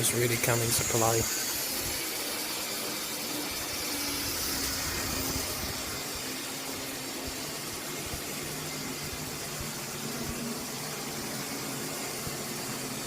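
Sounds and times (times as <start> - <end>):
model train motors whirring: 0.0 - 13.0.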